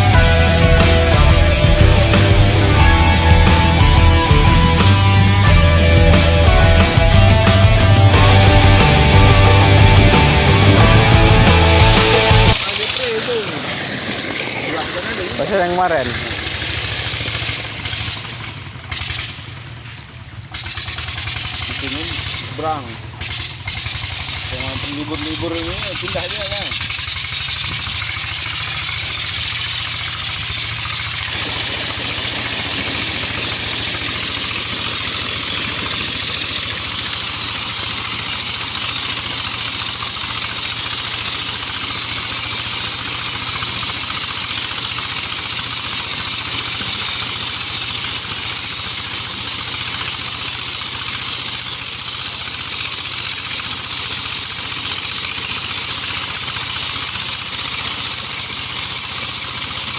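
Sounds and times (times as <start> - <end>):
diesel engine running: 0.0 - 59.9
suction pump rushing hiss: 0.0 - 59.9.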